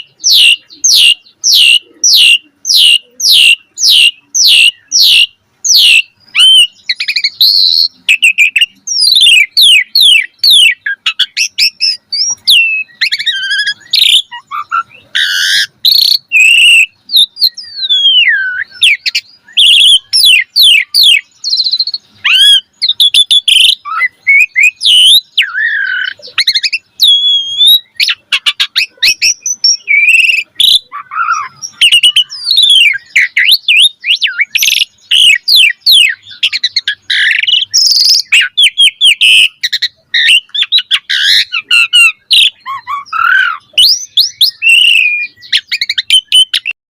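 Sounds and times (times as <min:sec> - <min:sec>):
starling singing varied song: 0:00.0 - 0:46.8.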